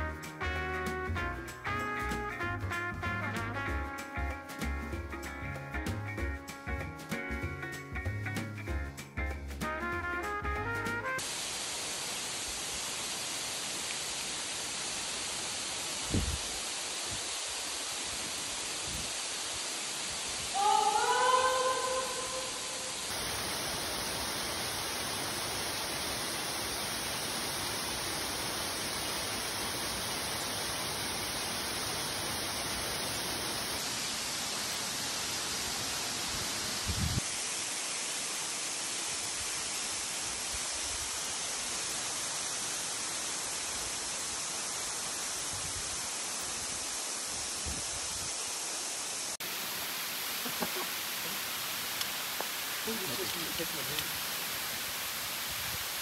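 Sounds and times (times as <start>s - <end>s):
steady rushing hiss: 0.0s - 56.0s.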